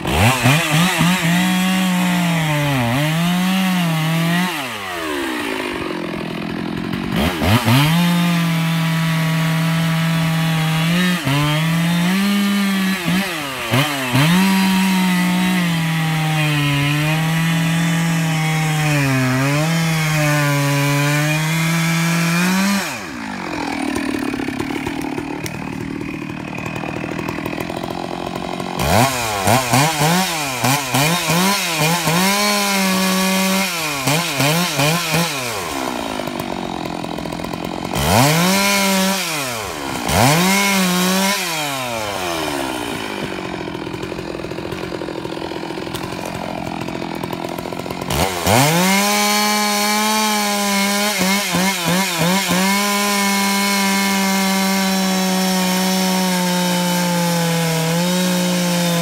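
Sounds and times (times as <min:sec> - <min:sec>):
chainsaw cutting wood: 0:00.0 - 0:59.0
chainsaw revving and idling: 0:00.0 - 0:59.0.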